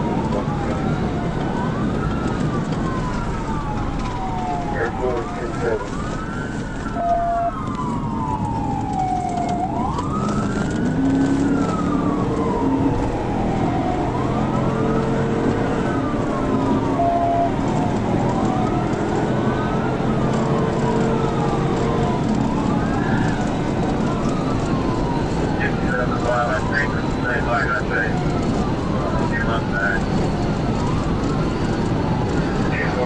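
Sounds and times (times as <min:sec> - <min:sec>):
police siren wailing: 0:00.0 - 0:33.0
road and engine noise: 0:00.0 - 0:33.0.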